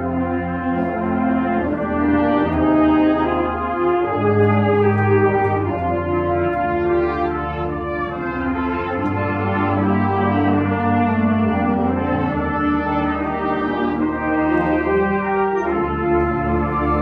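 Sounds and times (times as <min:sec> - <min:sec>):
wind ensemble playing chords: 0:00.0 - 0:17.0.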